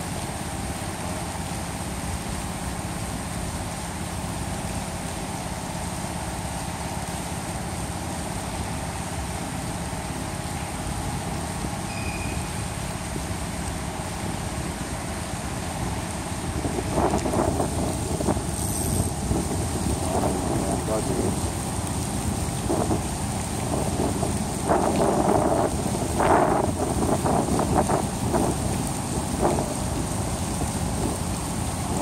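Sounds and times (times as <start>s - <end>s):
low rumble with hiss: 0.0s - 32.0s.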